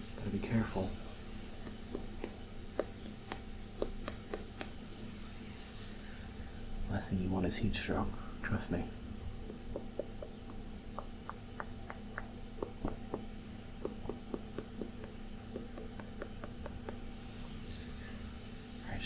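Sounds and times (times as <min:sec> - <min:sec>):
air conditioner hum and hiss: 0:00.0 - 0:19.0.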